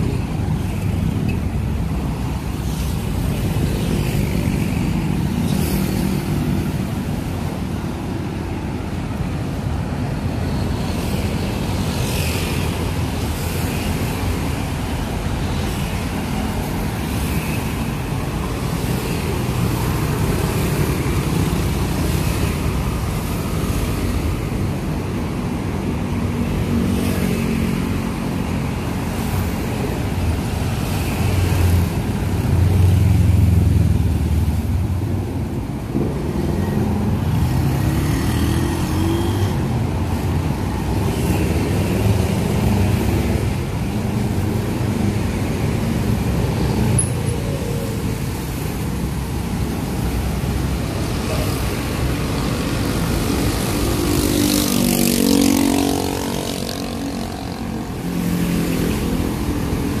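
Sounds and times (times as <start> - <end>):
road traffic engines rumbling: 0.0 - 60.0.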